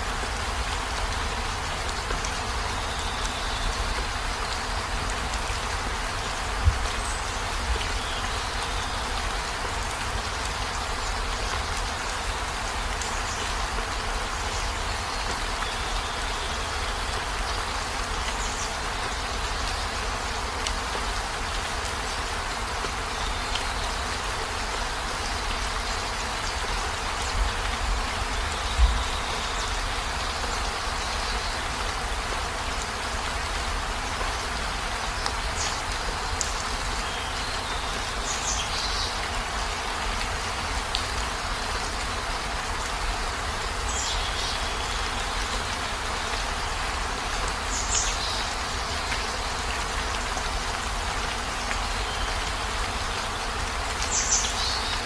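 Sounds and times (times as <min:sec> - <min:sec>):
heavy rain on a vehicle: 0:00.0 - 0:55.0.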